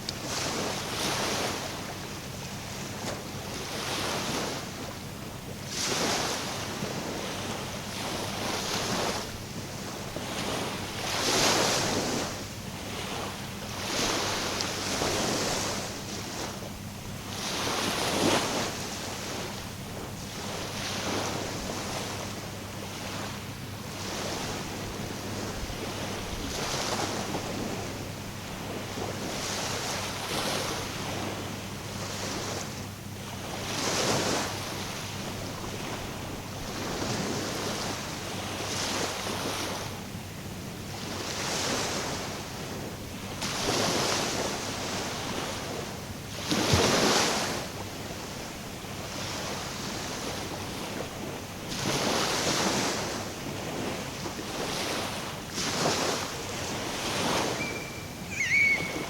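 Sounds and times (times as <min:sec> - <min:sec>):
small waves washing in: 0:00.0 - 0:40.0, 0:40.9 - 0:59.0.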